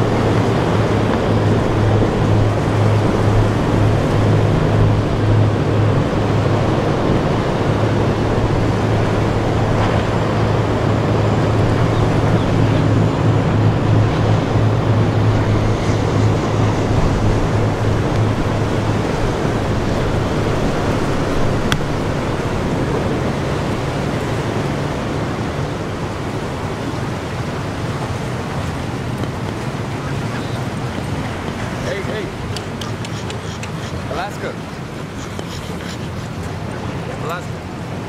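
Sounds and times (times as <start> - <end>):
powerboat engine droning: 0.0 - 38.0
wind and water wash: 0.0 - 38.0.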